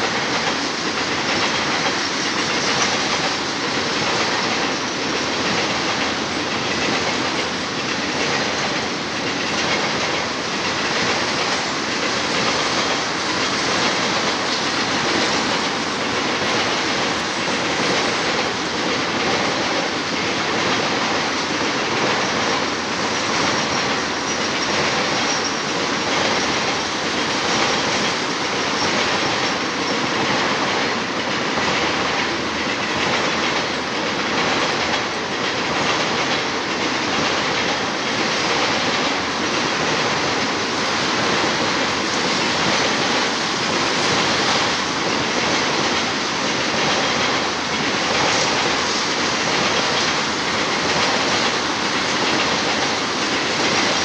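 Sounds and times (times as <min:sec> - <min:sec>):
train wheels rumbling on rails: 0:00.0 - 0:54.0
wheels clattering over rail joints: 0:00.0 - 0:54.0.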